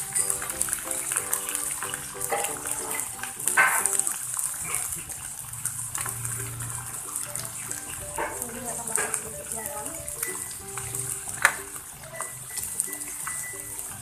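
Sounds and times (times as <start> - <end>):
wok bubbling and hissing: 0.0 - 14.0.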